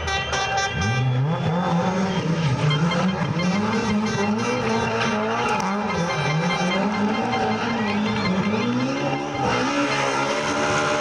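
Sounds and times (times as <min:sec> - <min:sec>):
rally car engine revving: 0:00.7 - 0:11.0.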